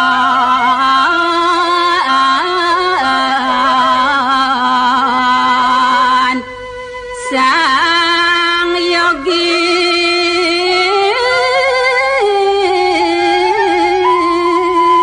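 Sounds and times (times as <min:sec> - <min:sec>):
person singing chant-like melody: 0:00.0 - 0:15.0.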